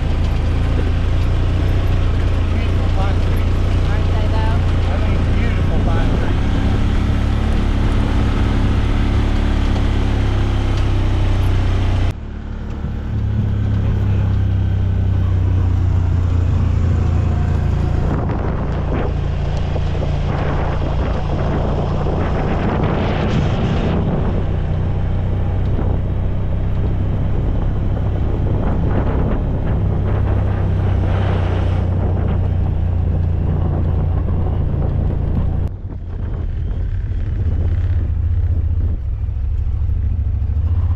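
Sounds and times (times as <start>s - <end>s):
vehicle engine running: 0.0s - 40.9s
wind buffeting microphone: 0.0s - 40.9s.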